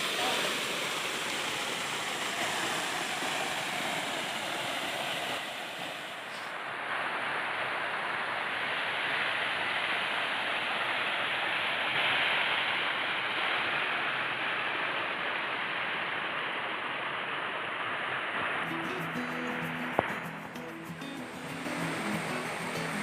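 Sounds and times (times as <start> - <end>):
small waterfall rushing: 0.0 - 23.0.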